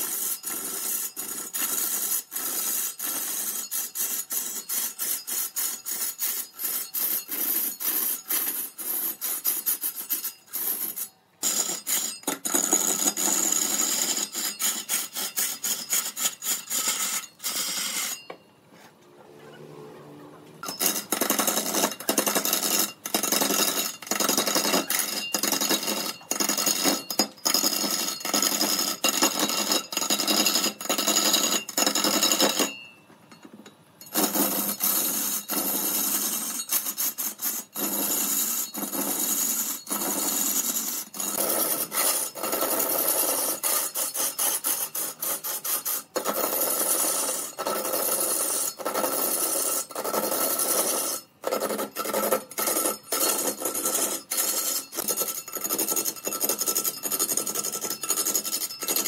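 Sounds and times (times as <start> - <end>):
hand tool rasping wood: 0.0 - 19.0, 20.6 - 32.8, 34.0 - 59.0.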